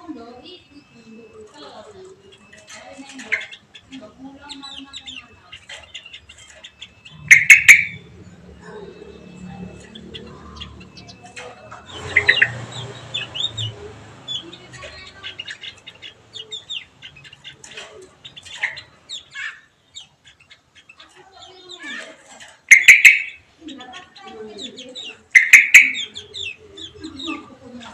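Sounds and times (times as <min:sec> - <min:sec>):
songbirds chirping: 0:00.0 - 0:27.9.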